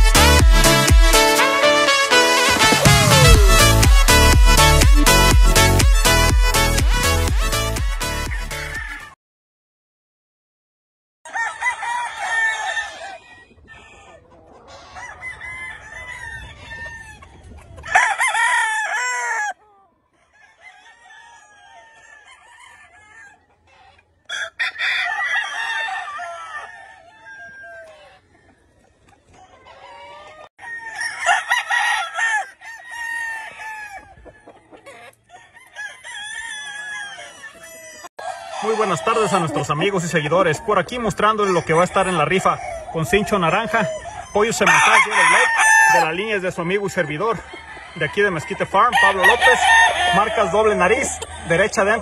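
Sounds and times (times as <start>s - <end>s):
roosters crowing: 0.0s - 6.6s, 8.0s - 9.2s, 11.3s - 52.0s.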